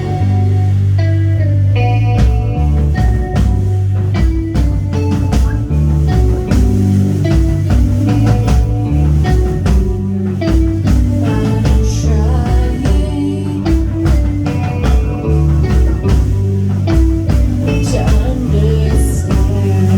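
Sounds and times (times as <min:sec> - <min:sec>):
bass guitar notes: 0:00.0 - 0:19.9
electric guitar: 0:00.0 - 0:19.9
drum hits: 0:02.2 - 0:19.9.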